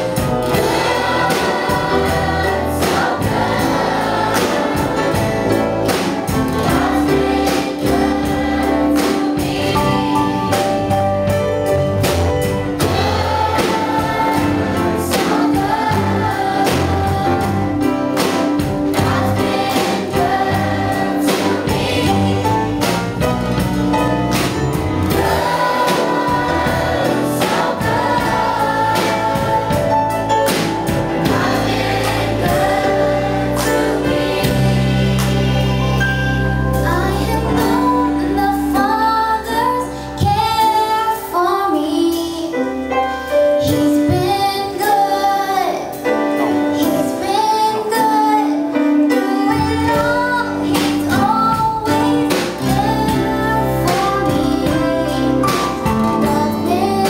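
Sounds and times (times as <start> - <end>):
choir singing gospel song: 0.0 - 11.0, 12.0 - 41.8, 43.7 - 57.0
band with steady beat: 0.0 - 38.9, 49.5 - 57.0.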